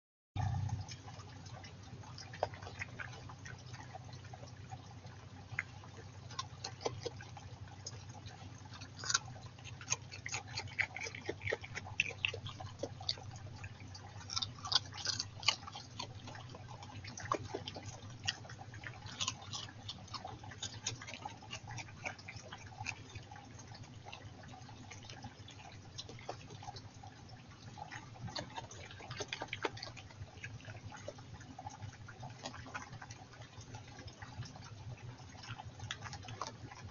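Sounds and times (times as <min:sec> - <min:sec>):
badger snuffling and chewing: 0:00.4 - 0:36.9
stream trickling: 0:00.4 - 0:36.9.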